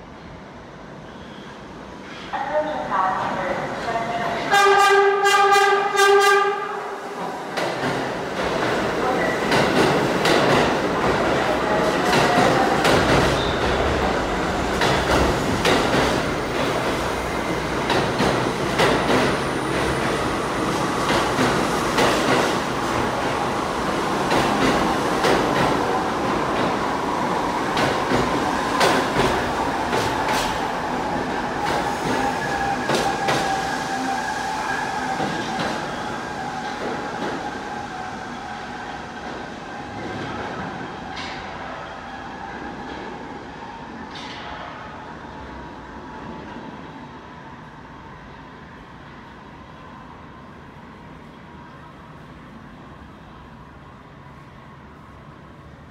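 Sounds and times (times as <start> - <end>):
subway train wheels clicking: 0.0 - 55.9.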